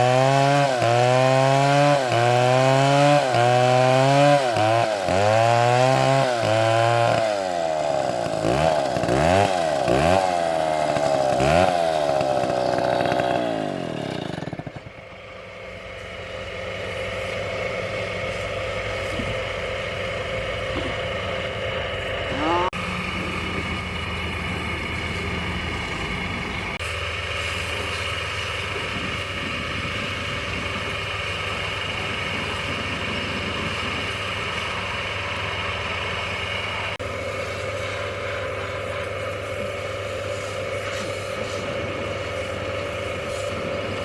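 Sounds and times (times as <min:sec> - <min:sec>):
chainsaw engine running: 0:00.0 - 0:44.0.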